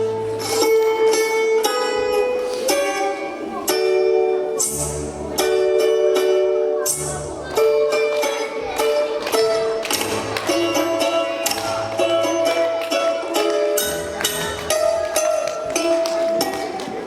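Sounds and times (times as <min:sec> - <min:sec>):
folk instrumental music: 0:00.0 - 0:17.0
plucked string instruments: 0:00.0 - 0:17.0.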